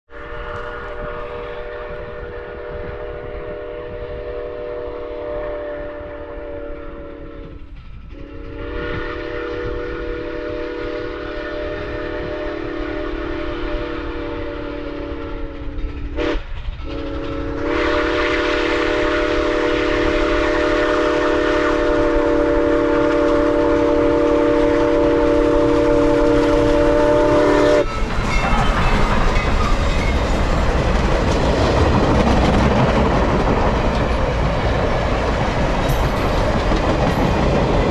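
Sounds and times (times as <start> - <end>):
steam locomotive whistle: 0.1 - 37.9
train rumble and wheel clatter: 0.1 - 37.9.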